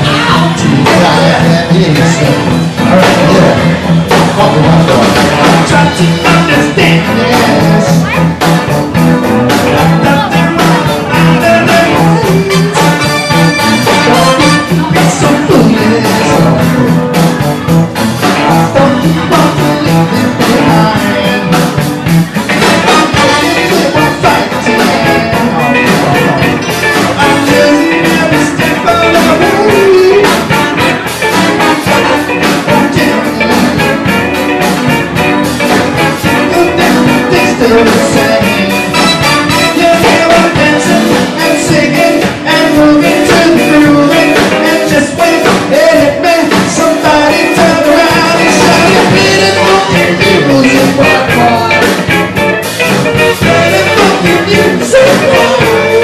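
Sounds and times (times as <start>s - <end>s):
man singing into a microphone: 0.0s - 34.2s, 35.2s - 52.2s, 53.0s - 56.0s
drum kit: 0.0s - 56.0s
keyboard: 0.0s - 56.0s.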